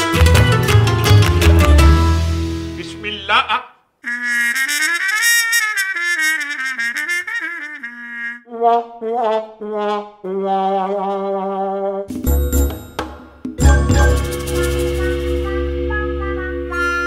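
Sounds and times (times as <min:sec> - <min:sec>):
comic trumpet music: 0:00.0 - 0:12.3, 0:13.6 - 0:17.0.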